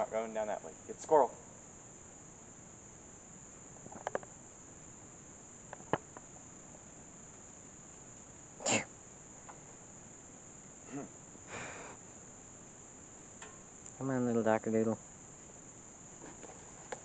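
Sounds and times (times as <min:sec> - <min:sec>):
high-pitched insect chorus: 0:00.0 - 0:17.0
rustle: 0:00.0 - 0:17.0.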